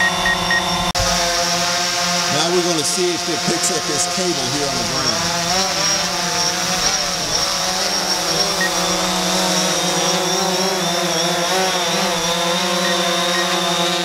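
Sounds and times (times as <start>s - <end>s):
drone propellers whirring: 0.0s - 14.0s.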